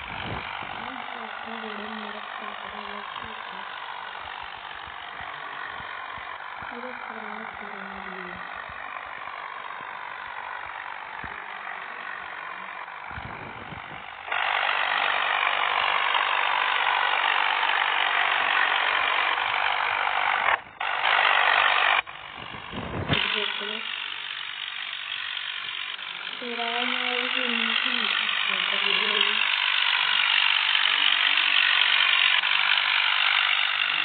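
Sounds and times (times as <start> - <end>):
machine running: 0.0 - 34.0.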